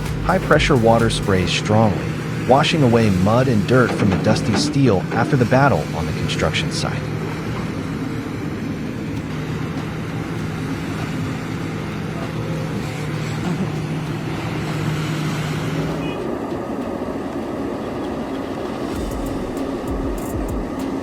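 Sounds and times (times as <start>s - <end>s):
low machine hum: 0.0s - 21.0s
pressure washer spraying water: 0.0s - 21.0s.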